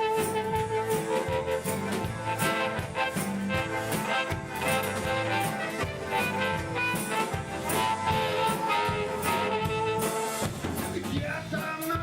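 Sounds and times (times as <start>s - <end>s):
live band playing: 0.0s - 12.0s
steady drum beat: 0.0s - 12.0s.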